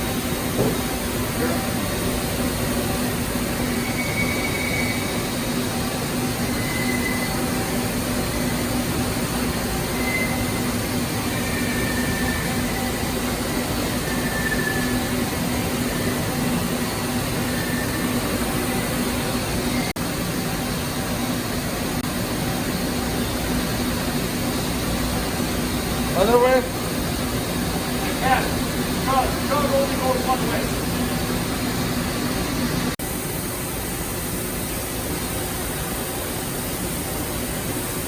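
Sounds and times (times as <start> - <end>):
lathe running with low hum: 0.0 - 38.0.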